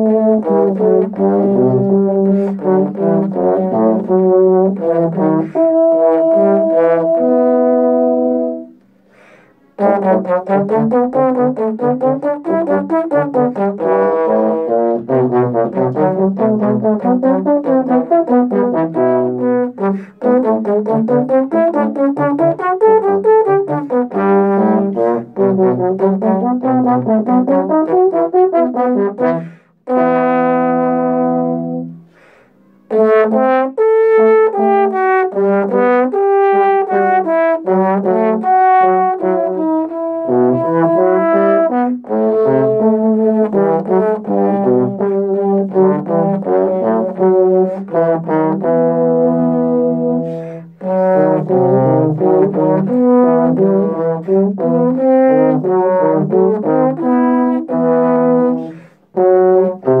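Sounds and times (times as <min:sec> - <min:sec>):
trombone duet: 0:00.0 - 0:08.7, 0:09.6 - 1:00.0.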